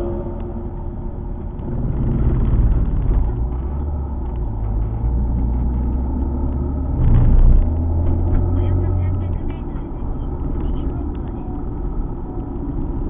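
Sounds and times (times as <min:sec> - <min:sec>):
car engine drone: 0:00.0 - 0:13.0
road rumble: 0:00.0 - 0:13.0.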